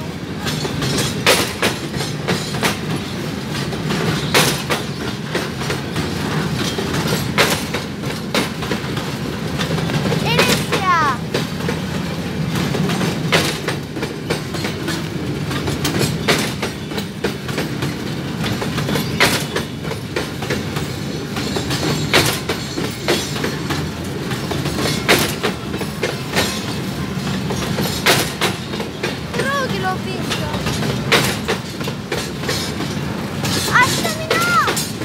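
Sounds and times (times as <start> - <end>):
train wheels rumbling on rail: 0.0 - 35.0
wheels clacking over rail joint: 0.0 - 35.0.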